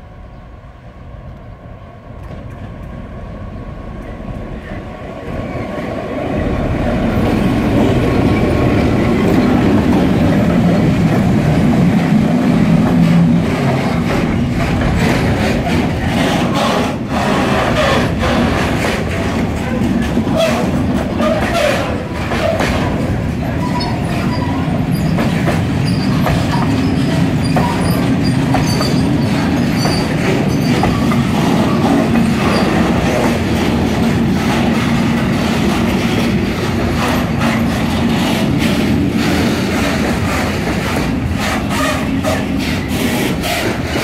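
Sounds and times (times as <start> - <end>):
steel wheels rumbling on rails: 0.0 - 44.0
wheels clacking over rail joints: 4.0 - 44.0.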